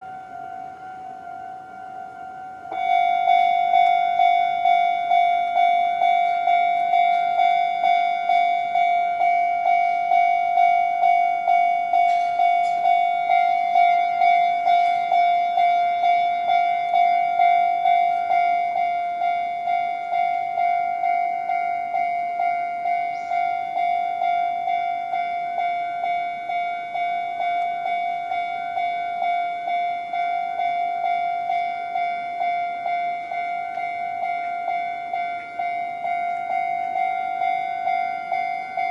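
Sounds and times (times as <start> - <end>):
level crossing alarm bell: 0.0 - 38.9.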